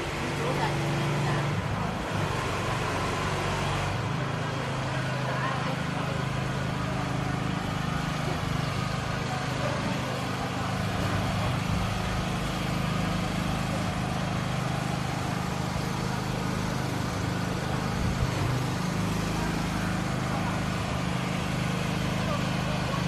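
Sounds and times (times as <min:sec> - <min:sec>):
street noise: 0:00.0 - 0:23.0.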